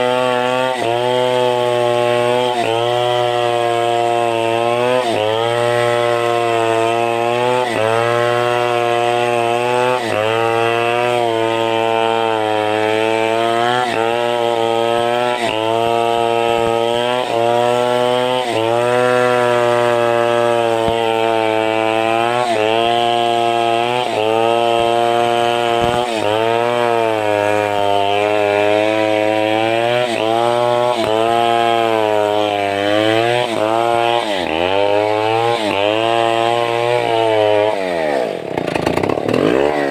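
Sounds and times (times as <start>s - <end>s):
chainsaw cutting log under load: 0.0s - 39.9s.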